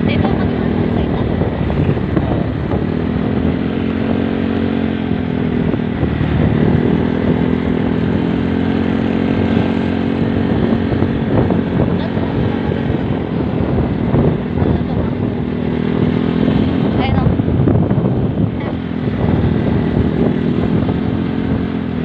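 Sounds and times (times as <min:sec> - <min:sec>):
vehicle engine cruising: 0:00.0 - 0:22.0
wind and road noise: 0:00.0 - 0:22.0.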